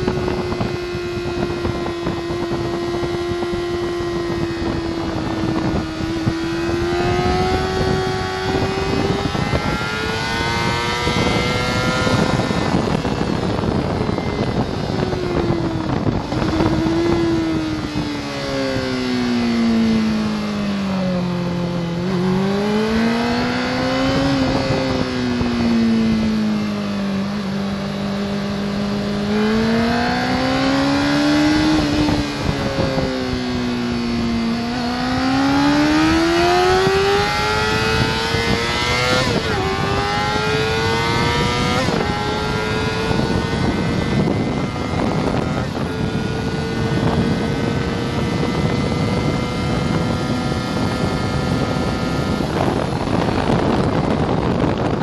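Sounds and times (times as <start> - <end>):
motorcycle engine revving: 0.0 - 55.0
rushing wind: 0.0 - 55.0.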